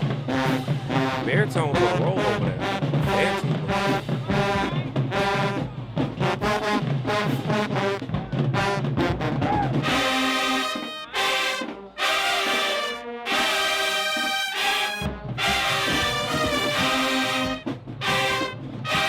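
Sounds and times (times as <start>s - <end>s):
marching band brass playing: 0.0s - 19.0s.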